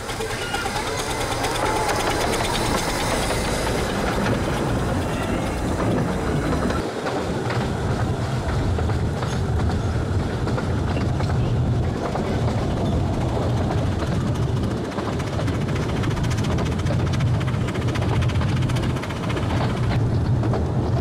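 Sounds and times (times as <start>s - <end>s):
miniature train wheels rumbling on rail: 0.0s - 21.0s.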